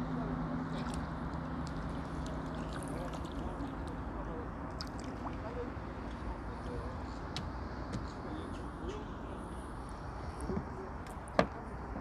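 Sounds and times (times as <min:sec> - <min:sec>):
low outdoor background hum: 0:00.0 - 0:12.0.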